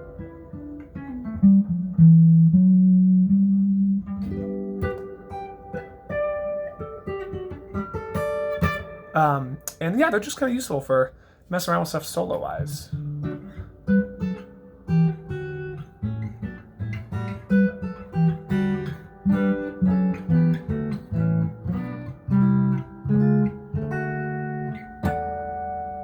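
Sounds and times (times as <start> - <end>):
guitar plucked notes: 0.0 - 11.0, 12.2 - 26.0.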